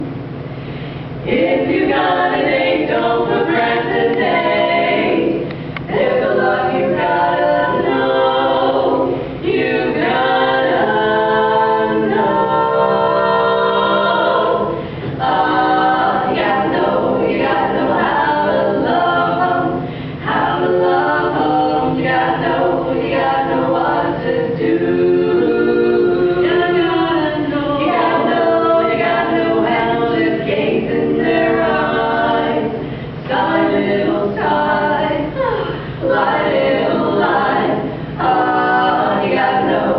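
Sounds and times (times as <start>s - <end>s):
a cappella group singing: 0.0s - 39.9s.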